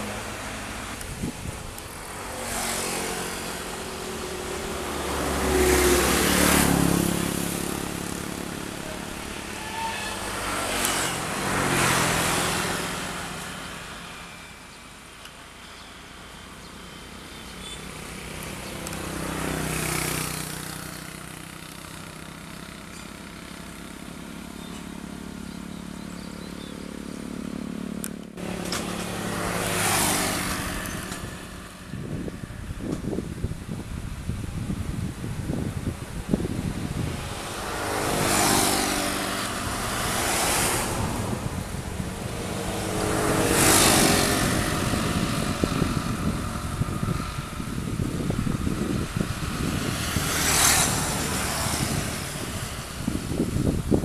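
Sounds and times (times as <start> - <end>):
broad rush of noise: 0.0 - 54.0.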